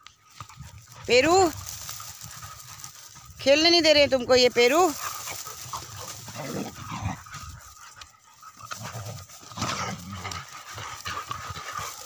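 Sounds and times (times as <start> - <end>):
dogs panting: 0.0 - 12.0
dogs scuffling: 0.2 - 12.0.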